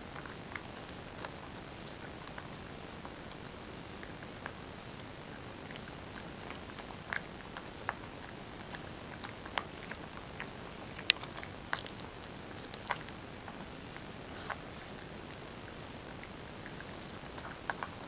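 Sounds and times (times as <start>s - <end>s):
puppy chewing crunchy food: 0.0s - 18.0s.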